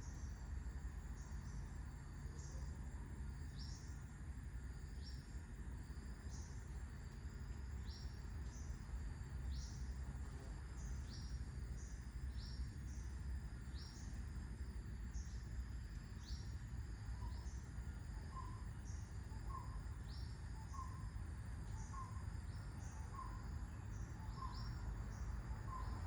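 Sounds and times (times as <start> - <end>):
low rumble of wind: 0.0 - 26.0.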